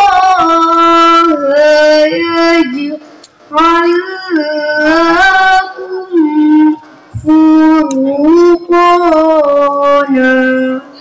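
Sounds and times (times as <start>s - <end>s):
girl reciting melodically: 0.0s - 11.0s.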